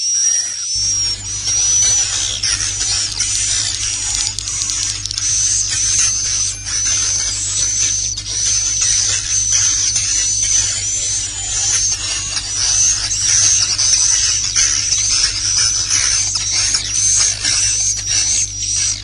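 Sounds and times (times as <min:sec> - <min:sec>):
rapid high twittering chirps: 0:00.0 - 0:19.0
steady low hum: 0:00.8 - 0:19.0.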